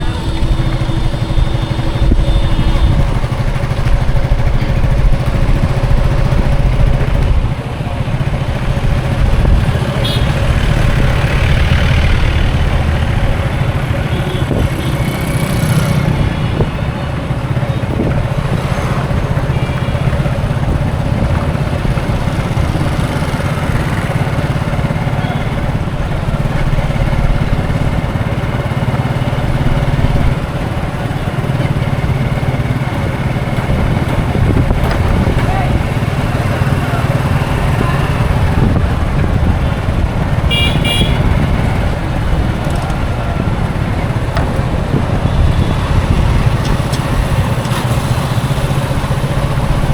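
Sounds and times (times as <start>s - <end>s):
traffic engine rumble: 0.0s - 49.9s.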